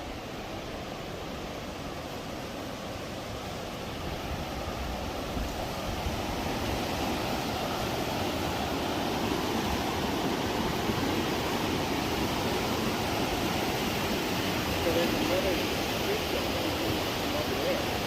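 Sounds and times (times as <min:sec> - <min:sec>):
fast river rushing: 0:00.0 - 0:18.0.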